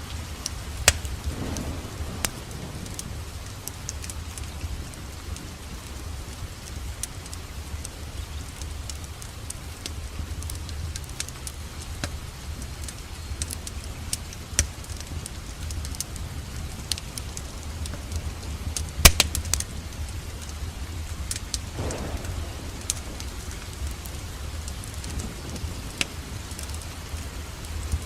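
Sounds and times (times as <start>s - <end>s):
low rumble and hiss: 0.0s - 28.0s
wood fire crackling and popping: 0.0s - 28.0s.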